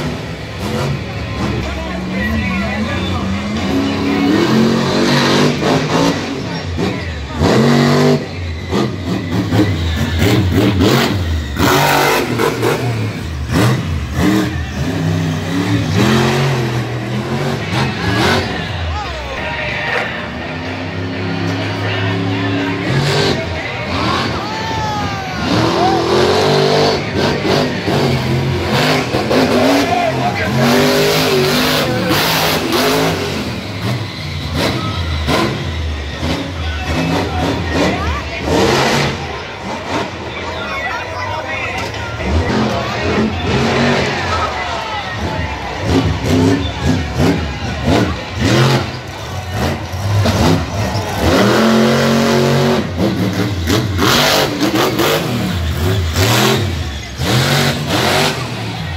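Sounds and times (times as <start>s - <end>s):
monster truck engine revving: 0.0s - 58.9s.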